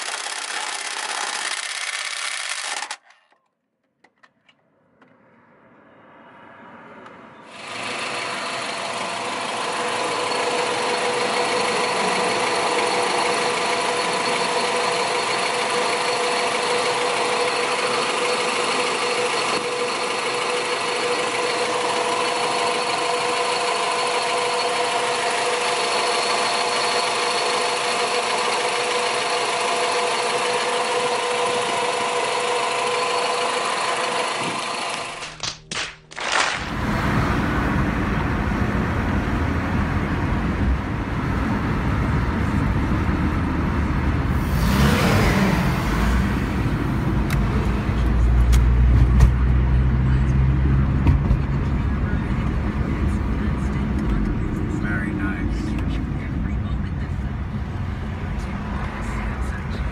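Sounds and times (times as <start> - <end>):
car engine idling: 0.0 - 3.0, 7.5 - 35.5, 36.6 - 59.9.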